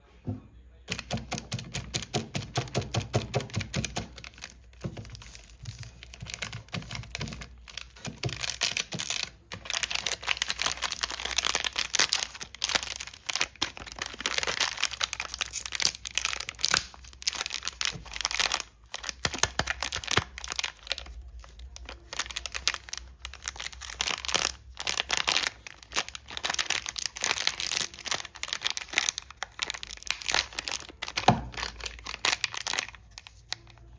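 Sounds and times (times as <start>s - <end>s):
wrappers crinkling and tearing: 0.9s - 33.9s.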